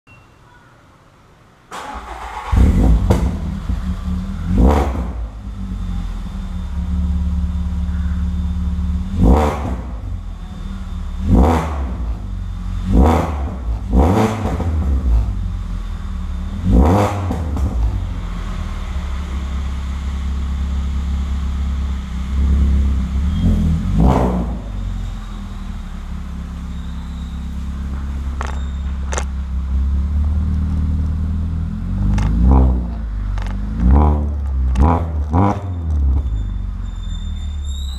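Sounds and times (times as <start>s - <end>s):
car engine starting: 1.7s - 37.9s
engine throttle blips: 1.7s - 37.9s
car engine idling: 1.8s - 37.7s.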